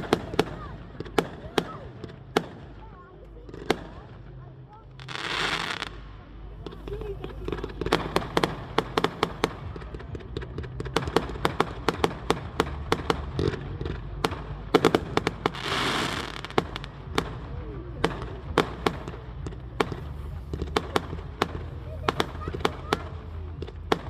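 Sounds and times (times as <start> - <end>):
fireworks bangs and cracks: 0.0 - 24.0.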